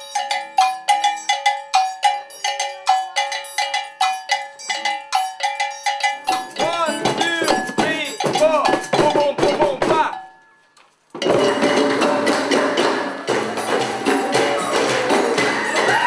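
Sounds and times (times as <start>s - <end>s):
bell-like metal percussion music: 0.0s - 16.0s.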